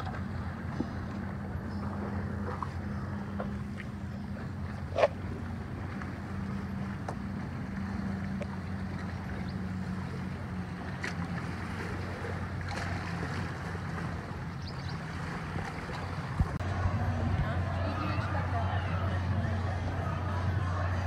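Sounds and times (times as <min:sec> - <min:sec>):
low engine hum: 0:00.0 - 0:21.0
wind buffeting microphone: 0:00.0 - 0:21.0.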